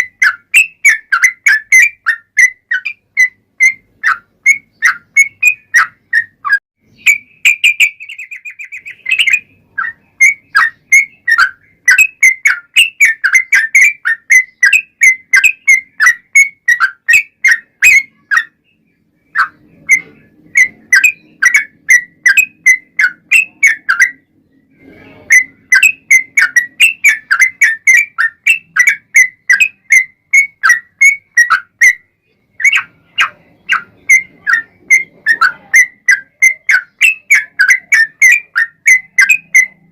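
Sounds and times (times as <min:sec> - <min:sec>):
bird trill: 0:00.0 - 0:39.9
bulbul chirping song: 0:00.0 - 0:39.9.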